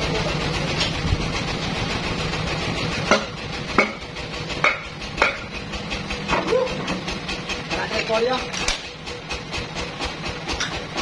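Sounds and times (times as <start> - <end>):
sawmill machinery humming: 0.0 - 11.0.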